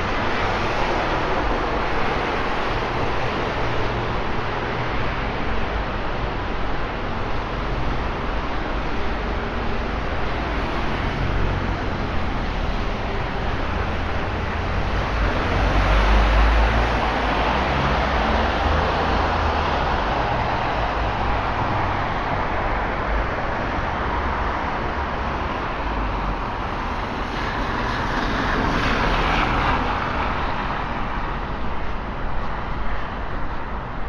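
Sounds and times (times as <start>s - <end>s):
tyres hissing on wet road: 0.0s - 33.5s.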